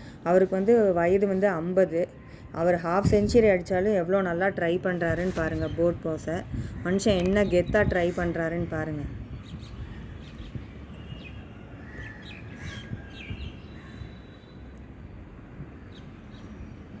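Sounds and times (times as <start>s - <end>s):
low outdoor background noise: 0.0s - 17.0s
birds chirping: 1.3s - 15.2s.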